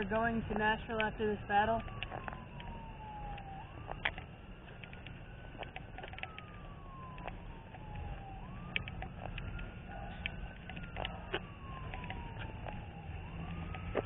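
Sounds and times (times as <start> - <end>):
faint emergency siren wailing: 0.0 - 14.0
sharp clicks: 0.9 - 14.0.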